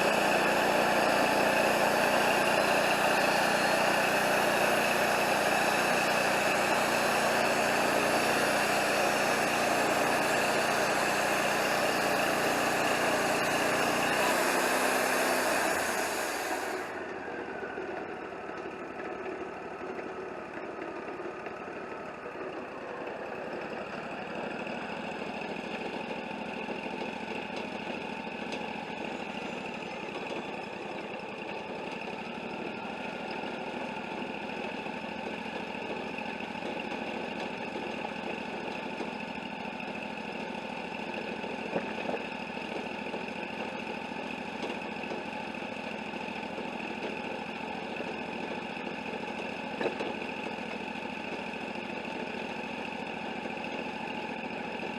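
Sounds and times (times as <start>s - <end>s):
band sawmill droning: 0.0s - 54.9s.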